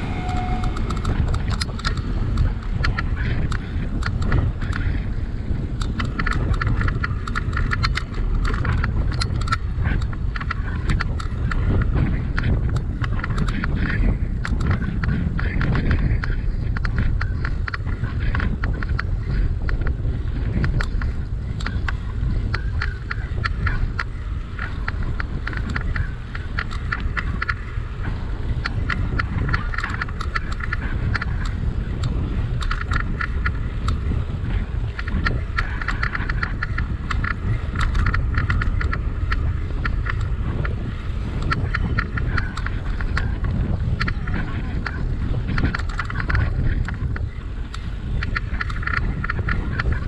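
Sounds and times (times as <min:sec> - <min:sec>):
bicycle rattling clicks: 0:00.0 - 0:50.0
wind rushing over microphone: 0:00.0 - 0:50.0.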